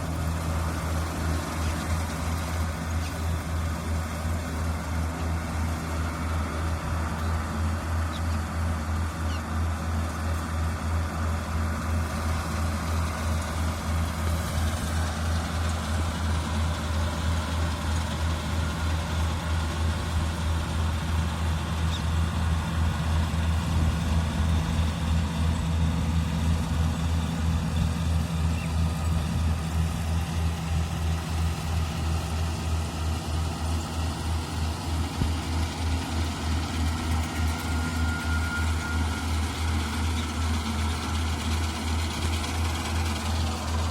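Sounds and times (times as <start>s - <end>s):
combine harvester engine running: 0.0s - 43.9s.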